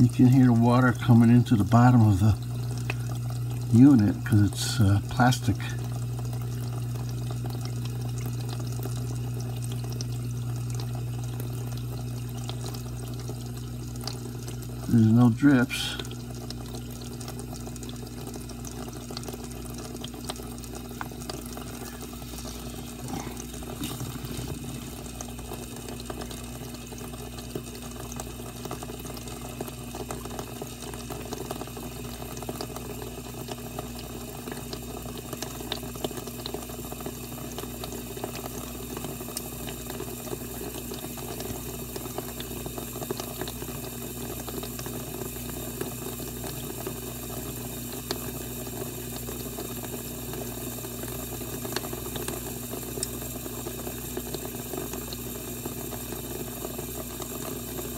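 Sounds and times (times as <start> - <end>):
steady low hum: 0.0 - 49.5
water rushing into plastic tub: 0.0 - 57.9.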